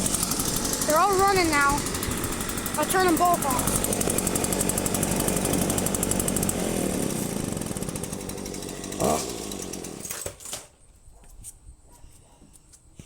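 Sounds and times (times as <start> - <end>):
leaf blower engine: 0.0 - 10.6
string trimmer engine: 0.0 - 10.6.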